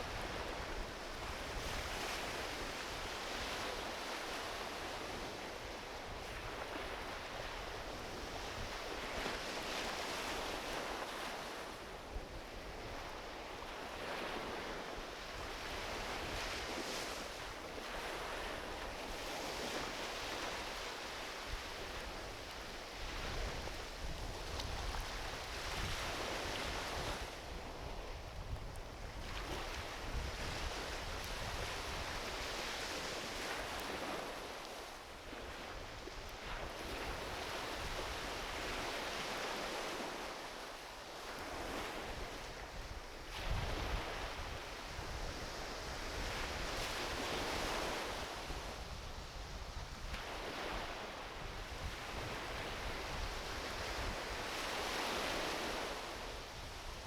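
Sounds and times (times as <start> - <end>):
wind rumble on microphone: 0.0 - 34.6, 35.3 - 40.2, 41.2 - 57.0
small waves washing onto beach: 0.0 - 57.0.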